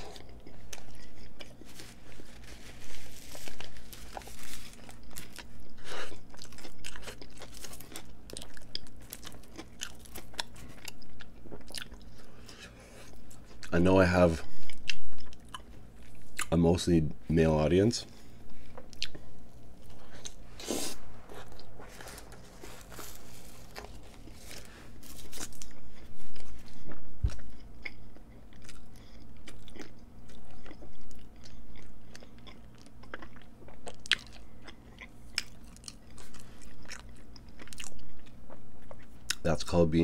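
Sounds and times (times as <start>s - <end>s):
person chewing a sandwich: 0.0s - 16.5s, 18.1s - 39.5s.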